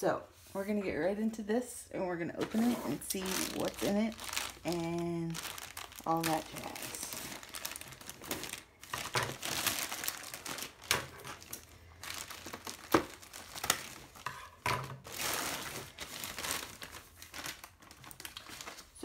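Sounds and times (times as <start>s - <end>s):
packaging crinkling and tearing: 3.1s - 19.0s.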